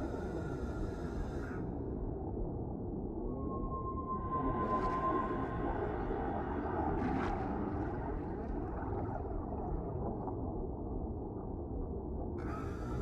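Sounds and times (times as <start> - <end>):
underwater low rumbling wash: 1.7 - 12.4.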